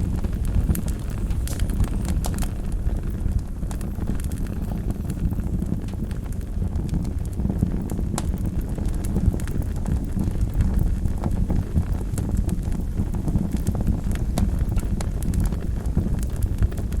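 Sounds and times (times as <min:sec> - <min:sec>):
wood fire crackling in fireplace: 0:00.0 - 0:17.0.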